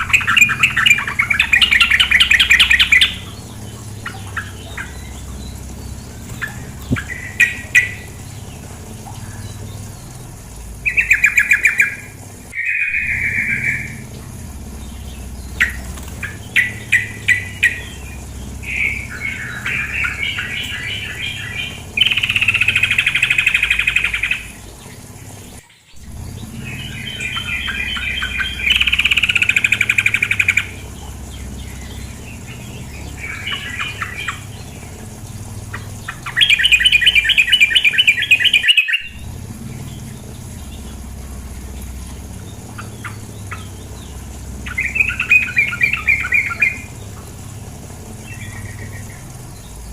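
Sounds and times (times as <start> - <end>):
bird chattering calls: 0.0 - 49.9.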